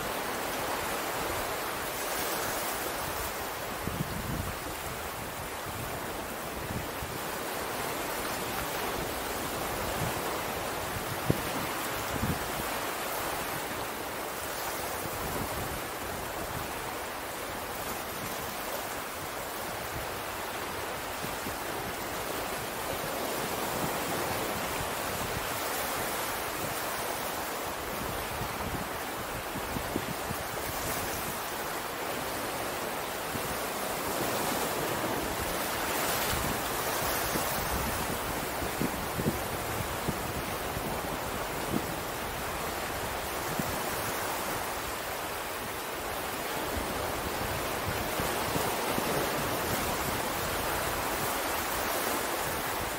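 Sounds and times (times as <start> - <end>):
ocean waves washing ashore: 0.0 - 52.9
wind rumble on microphone: 0.4 - 52.9.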